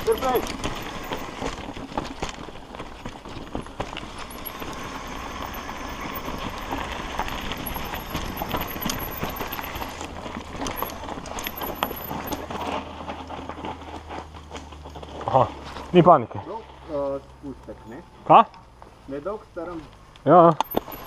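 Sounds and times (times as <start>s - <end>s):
bike rattling over bumps: 0.0s - 17.2s, 20.6s - 21.0s
bike tyres rolling over dirt: 0.0s - 21.0s.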